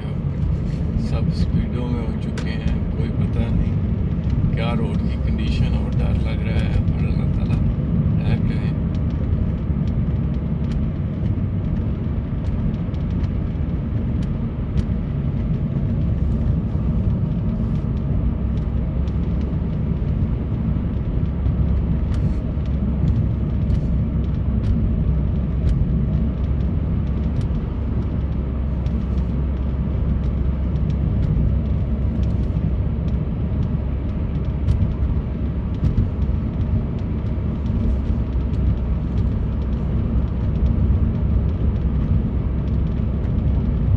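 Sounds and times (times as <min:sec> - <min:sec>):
engine and road rumble: 0:00.0 - 0:43.9.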